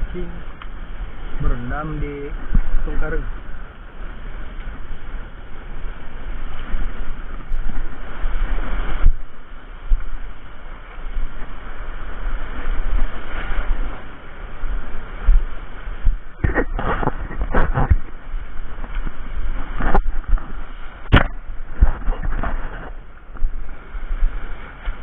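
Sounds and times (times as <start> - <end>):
surf washing over reef: 0.0 - 25.0
wind rumbling on microphone: 0.0 - 25.0.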